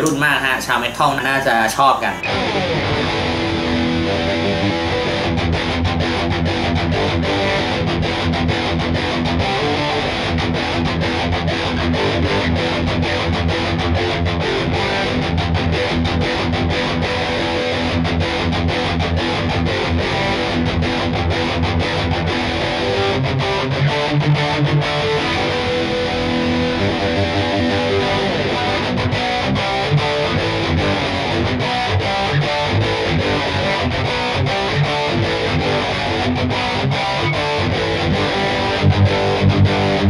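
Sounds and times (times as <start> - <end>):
distorted electric guitar riffing: 2.0 - 40.0.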